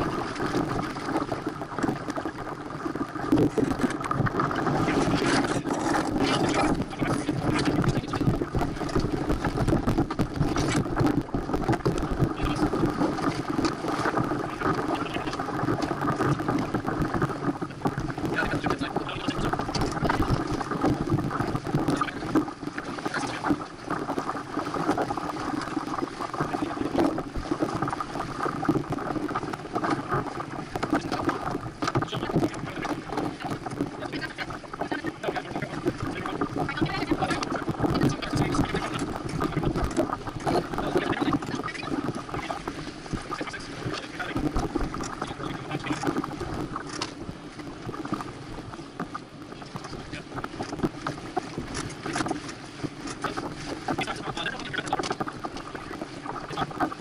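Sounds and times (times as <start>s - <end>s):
water rushing along hull: 0.0s - 57.0s
wind on microphone: 0.0s - 57.0s.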